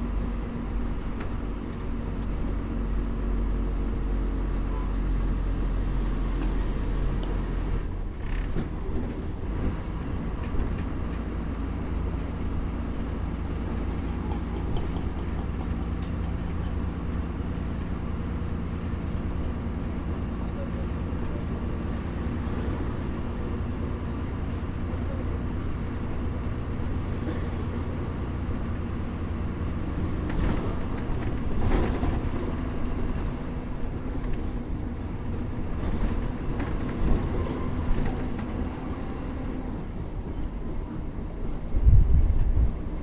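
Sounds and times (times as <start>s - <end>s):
bus engine hum: 0.0s - 43.0s
road rumble: 0.0s - 43.0s.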